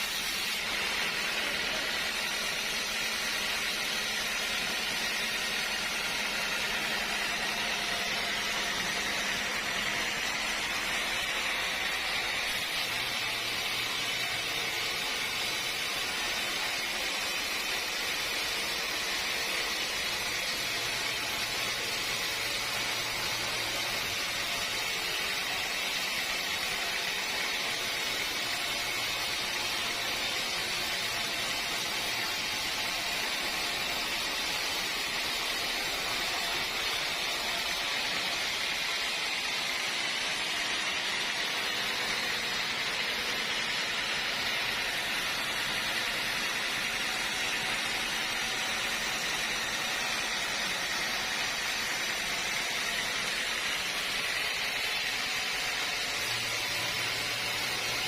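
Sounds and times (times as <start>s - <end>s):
sawmill machinery hiss: 0.0s - 58.0s.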